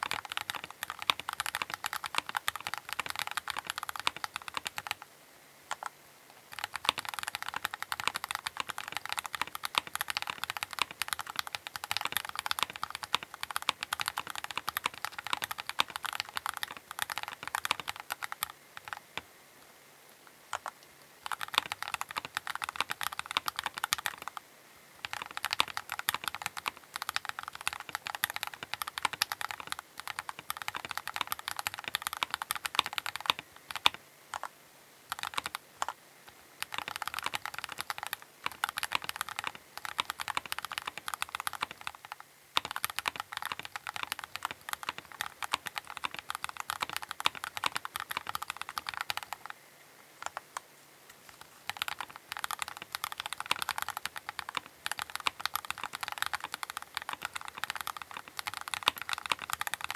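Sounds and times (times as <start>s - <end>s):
mechanical keyboard typing: 0.0s - 5.1s, 5.7s - 5.9s, 6.5s - 19.2s, 20.5s - 24.4s, 25.0s - 34.5s, 35.1s - 36.0s, 36.6s - 49.6s, 50.2s - 50.6s, 51.3s - 59.9s.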